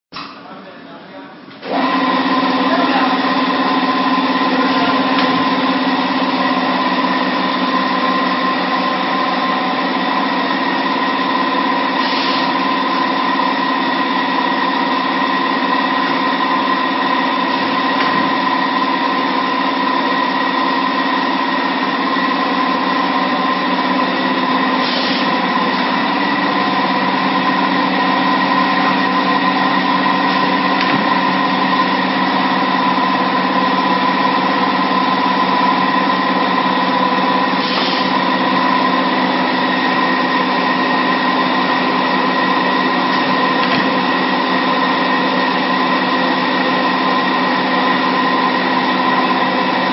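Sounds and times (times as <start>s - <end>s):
welding machine humming: 1.7s - 49.9s.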